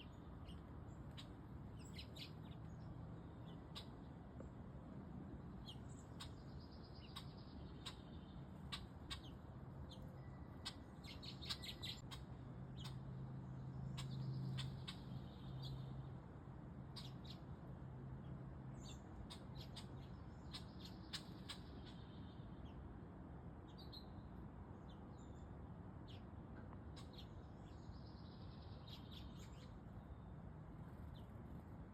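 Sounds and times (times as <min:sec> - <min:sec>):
low steady hum: 0:00.0 - 0:31.9
small birds chirping: 0:00.0 - 0:31.9.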